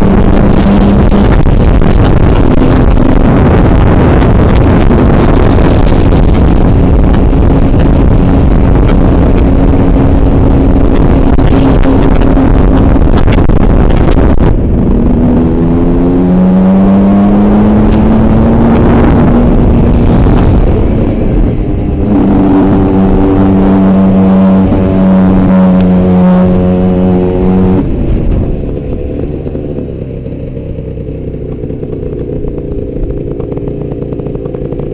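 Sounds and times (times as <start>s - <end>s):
heavy wind rush: 0.0s - 34.9s
two-stroke motorcycle engine revving: 0.0s - 34.9s.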